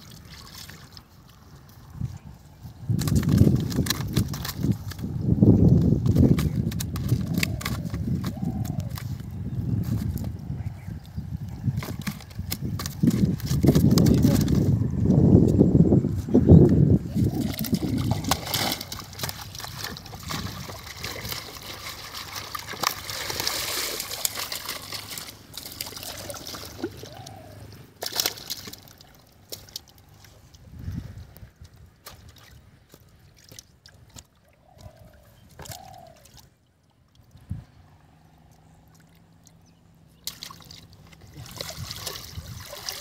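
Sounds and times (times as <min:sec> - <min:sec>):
small splashes and clicks: 0:00.0 - 0:02.0, 0:02.9 - 0:05.2, 0:05.8 - 0:10.4, 0:11.0 - 0:14.7, 0:17.3 - 0:30.6, 0:31.3 - 0:37.5, 0:38.4 - 0:43.0
water sloshing and trickling: 0:00.0 - 0:43.0.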